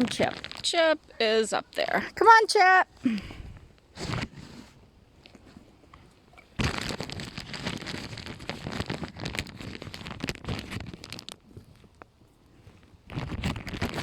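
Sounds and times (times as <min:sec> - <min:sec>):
crunching and crackling rustle: 0:00.0 - 0:02.2, 0:03.0 - 0:14.0.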